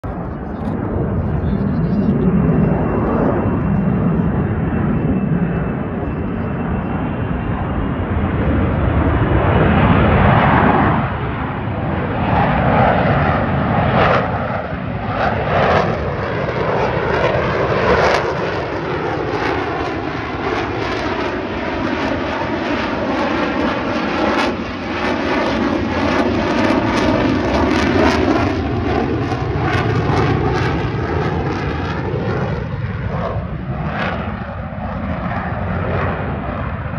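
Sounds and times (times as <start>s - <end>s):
airplane flying overhead: 0.0s - 36.9s.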